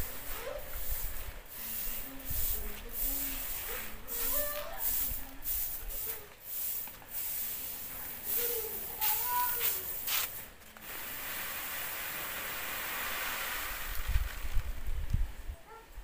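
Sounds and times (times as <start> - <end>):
grain scooped with hissing rustles: 0.0 - 15.4.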